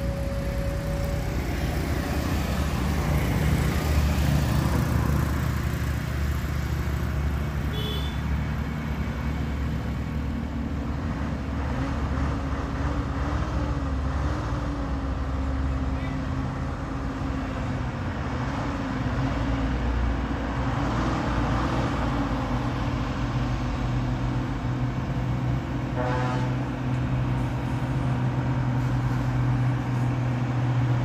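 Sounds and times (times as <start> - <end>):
traffic: 0.0 - 31.0
truck diesel engine climbing: 0.0 - 31.0.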